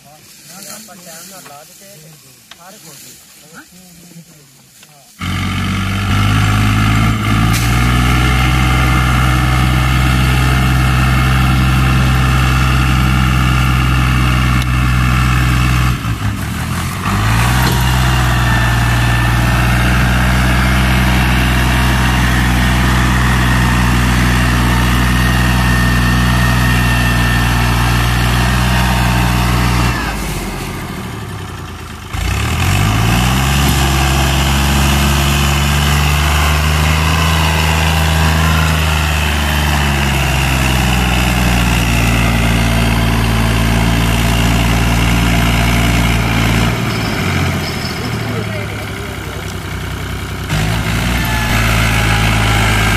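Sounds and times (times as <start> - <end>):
tractor diesel engine labouring: 3.6 - 52.9.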